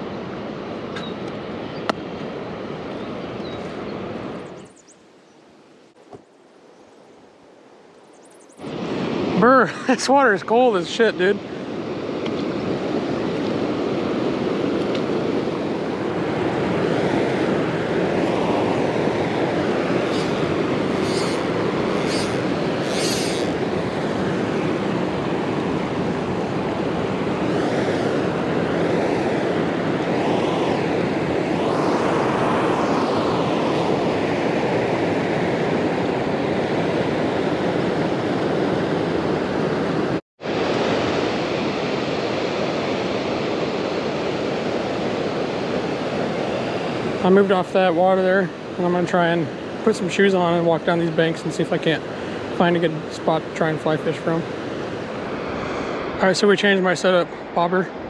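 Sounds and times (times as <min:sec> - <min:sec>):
water rushing with loud roar: 0:08.6 - 0:58.0.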